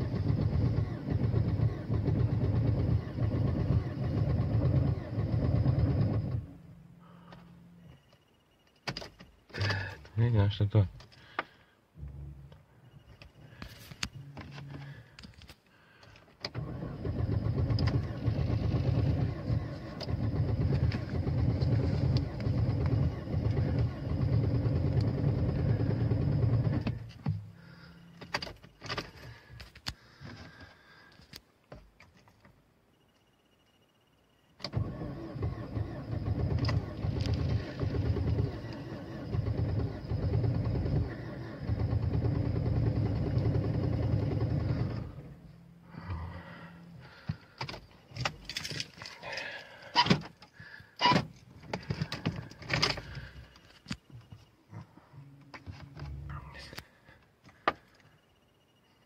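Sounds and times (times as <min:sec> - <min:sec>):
car engine cranking and starting: 0:00.0 - 0:32.5, 0:34.5 - 0:59.0.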